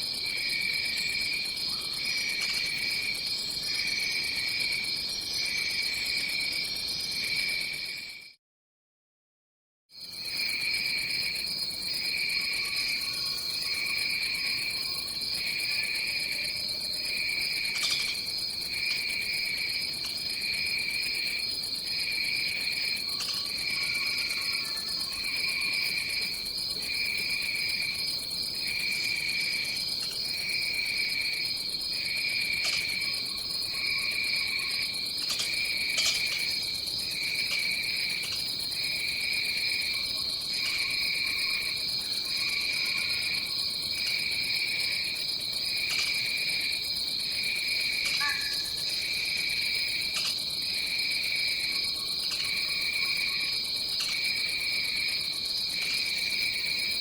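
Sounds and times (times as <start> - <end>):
lower pulsing insect chorus: 0.0 - 8.4, 10.0 - 57.0.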